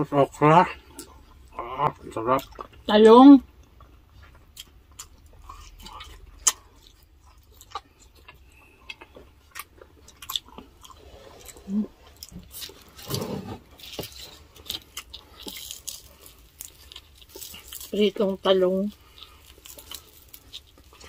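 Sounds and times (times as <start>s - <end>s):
chewing food: 0.1s - 21.0s.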